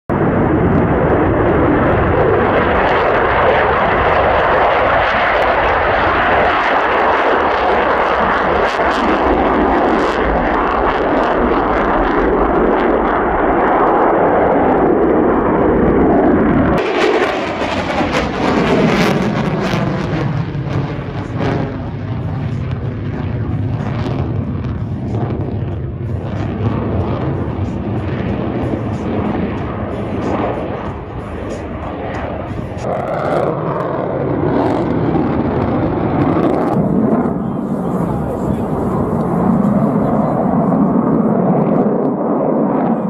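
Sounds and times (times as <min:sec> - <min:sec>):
fighter jet taking off on afterburner: 0:00.1 - 0:43.0
passing jet with wavering tone: 0:00.1 - 0:43.0.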